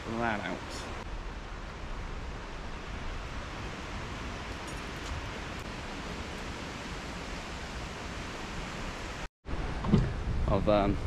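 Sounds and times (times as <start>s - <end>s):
wind noise on microphone: 1.0s - 11.0s.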